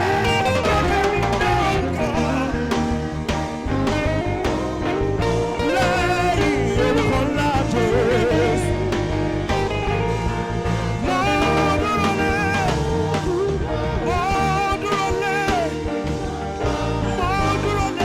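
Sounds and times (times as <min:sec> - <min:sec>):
bass: 0:00.0 - 0:18.0
drums: 0:00.0 - 0:18.0
saxophone melody: 0:00.0 - 0:18.0.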